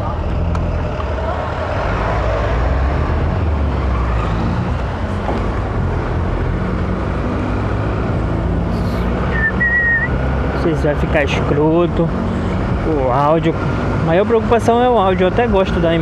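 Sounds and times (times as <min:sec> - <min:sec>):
tyres on wet asphalt: 0:00.0 - 0:16.0.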